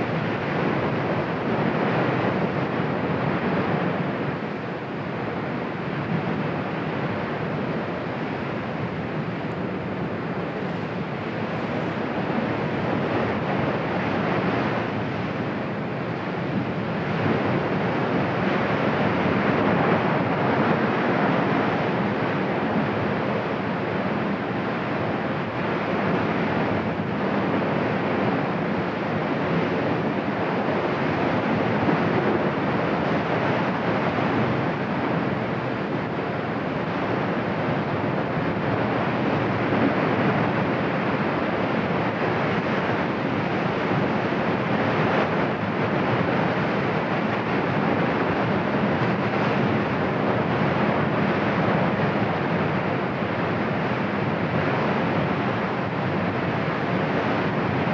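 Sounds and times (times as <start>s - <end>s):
volcano roaring: 0.0s - 57.9s.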